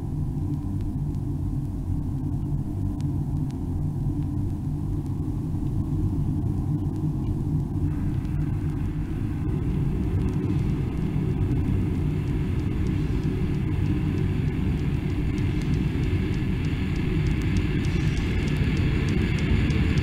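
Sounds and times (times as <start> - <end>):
low rumbling drone: 0.0 - 20.0
faint high ticks: 0.4 - 5.8, 6.4 - 20.0.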